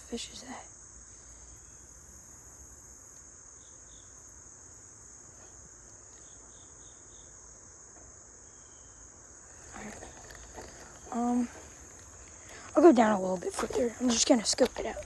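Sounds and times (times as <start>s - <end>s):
crickets chorus: 0.0s - 15.0s.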